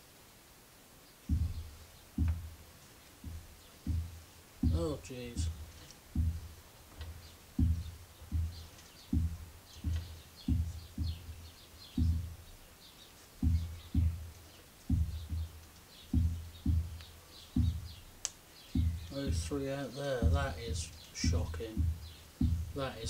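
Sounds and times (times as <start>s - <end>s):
low dull thuds of lathe chuck: 1.2s - 12.7s, 13.4s - 23.0s.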